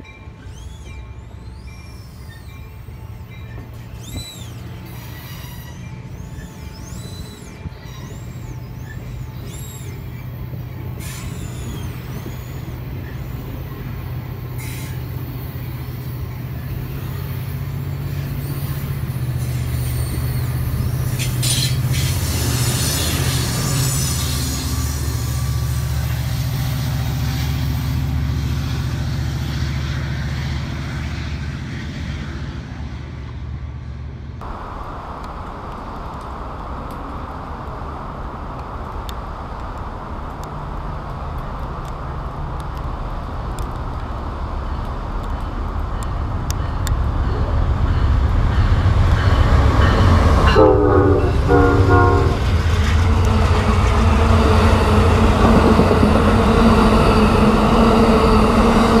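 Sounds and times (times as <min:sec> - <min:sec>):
diesel locomotive engine hum: 0:00.0 - 0:59.0
train rolling past: 0:00.0 - 0:59.0.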